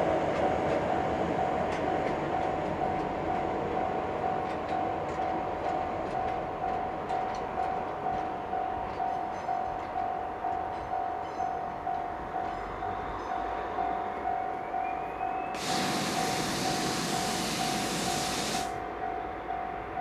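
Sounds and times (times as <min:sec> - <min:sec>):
train wheels clicking on rails: 0:00.0 - 0:13.5, 0:15.6 - 0:19.0
train rumbling past: 0:00.0 - 0:20.0
level-crossing warning bell: 0:01.0 - 0:20.0.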